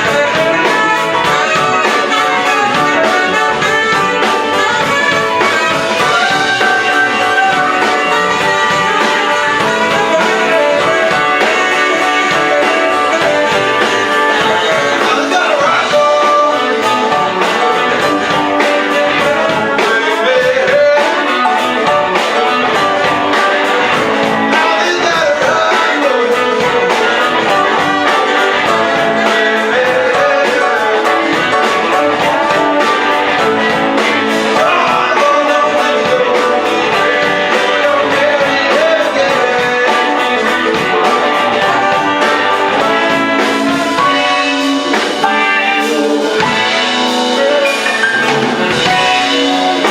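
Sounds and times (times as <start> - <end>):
bass: 0.0 - 49.9
drums: 0.0 - 49.9
electric guitar: 0.0 - 49.9
tenor saxophone: 0.0 - 49.9
trombones: 0.0 - 49.9.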